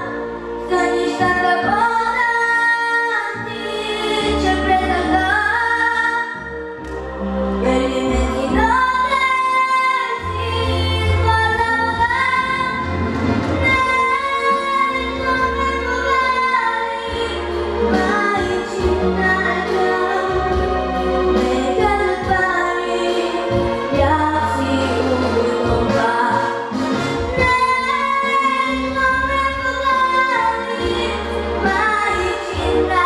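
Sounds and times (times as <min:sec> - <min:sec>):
girl singing into microphone: 0:00.0 - 0:06.6, 0:07.6 - 0:12.9, 0:13.6 - 0:26.7, 0:27.3 - 0:33.0
instrumental accompaniment with bass: 0:00.0 - 0:33.0.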